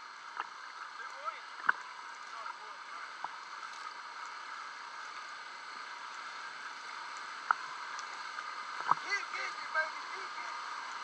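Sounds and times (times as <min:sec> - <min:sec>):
water churning and bubbling: 0:00.0 - 0:11.0.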